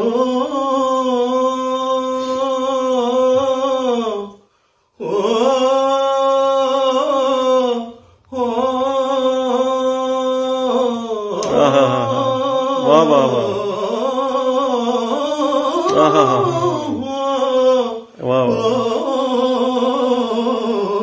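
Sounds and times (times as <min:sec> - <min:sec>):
young man singing unaccompanied: 0:00.0 - 0:04.4, 0:05.0 - 0:21.0.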